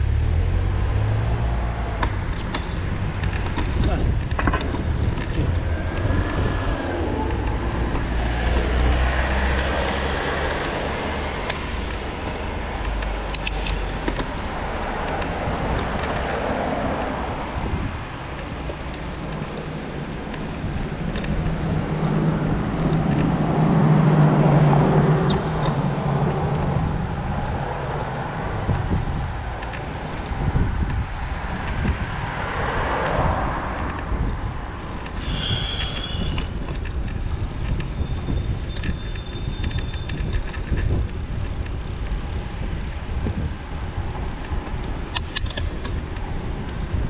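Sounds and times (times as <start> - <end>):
vehicles passing: 0.0 - 47.0.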